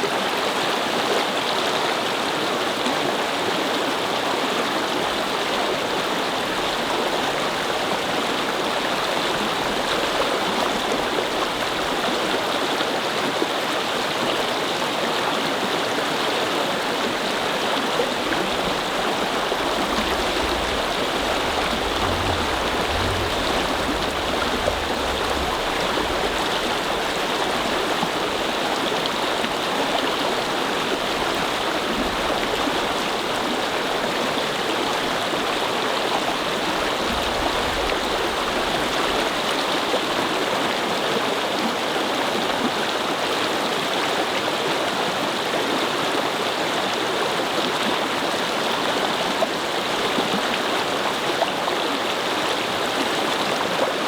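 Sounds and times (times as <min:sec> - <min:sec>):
brook babbling: 0:00.0 - 0:54.0.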